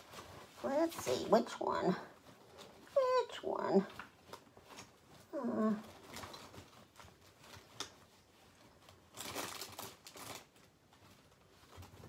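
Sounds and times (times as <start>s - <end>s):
small items rustling: 0.0s - 12.0s.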